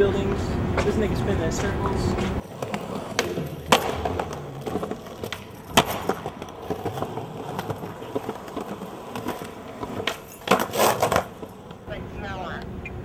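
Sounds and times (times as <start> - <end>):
skateboard wheels rolling on pavement: 0.0 - 13.0
skateboard clacking on ground: 0.2 - 11.9.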